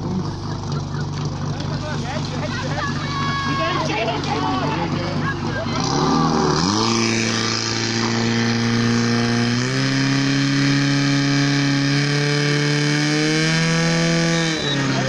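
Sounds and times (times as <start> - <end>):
pump engine running at high revs: 0.0 - 15.0.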